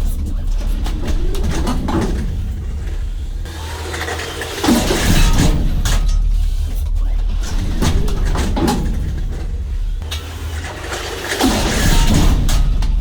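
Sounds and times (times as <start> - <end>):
knocks and clatter: 0.0 - 13.0
vehicle engine running: 0.0 - 13.0.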